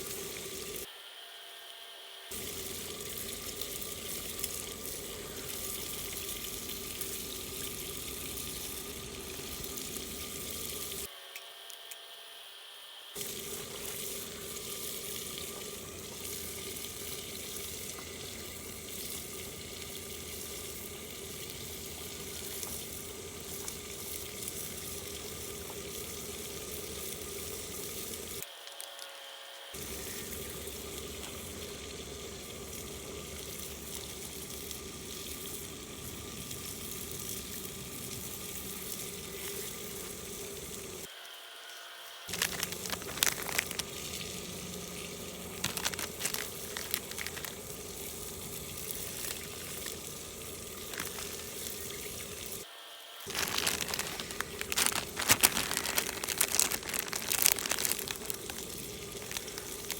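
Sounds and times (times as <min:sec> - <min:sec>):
food sizzling in hot fat: 0:02.3 - 0:11.1, 0:13.2 - 0:28.5, 0:29.8 - 0:41.1, 0:42.2 - 0:59.9.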